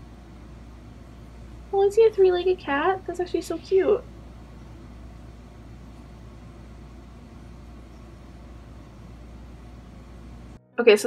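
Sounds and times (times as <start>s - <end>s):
recording hum and hiss: 0.0s - 11.0s.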